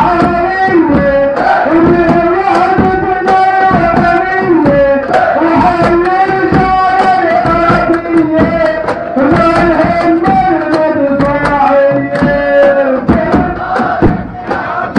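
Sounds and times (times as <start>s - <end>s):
crowd chanting: 0.0s - 14.9s
hand drum beat: 0.0s - 14.9s.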